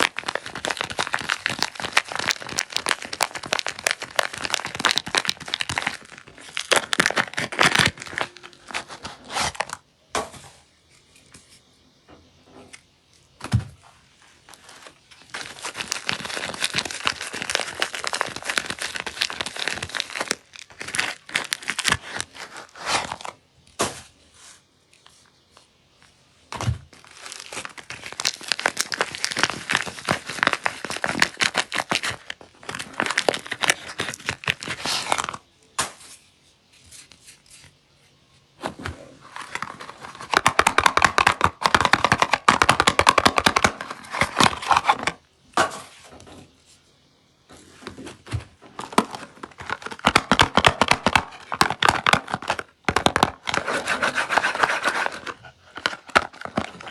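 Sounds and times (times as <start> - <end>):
wrapper crinkling and tearing: 0.0 - 9.8, 14.5 - 23.9, 26.5 - 37.7, 38.6 - 45.2, 47.6 - 56.9.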